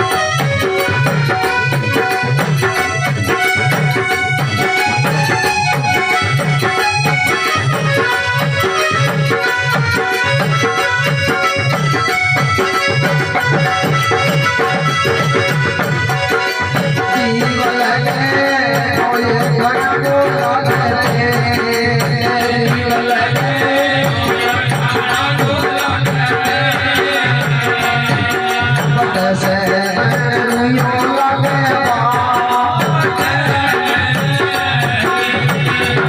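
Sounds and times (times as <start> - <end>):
drum beat: 0.0 - 36.0
jingling percussion: 0.0 - 36.0.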